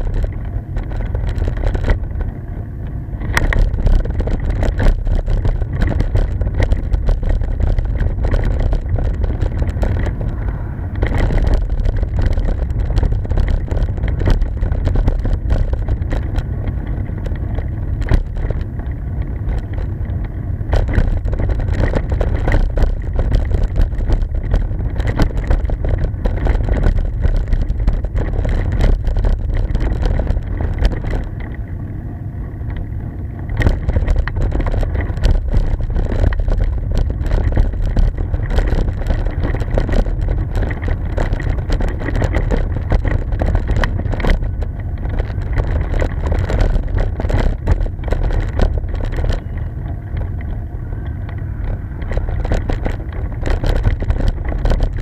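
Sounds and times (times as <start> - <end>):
camera knocking and rattling: 0.0 - 31.8, 32.6 - 55.0
wind rumble on microphone: 0.0 - 55.0.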